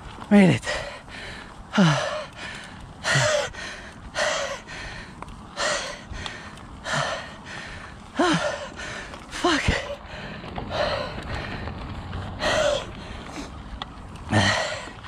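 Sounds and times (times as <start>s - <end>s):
person breathing hard: 0.6s - 13.7s, 14.3s - 15.0s.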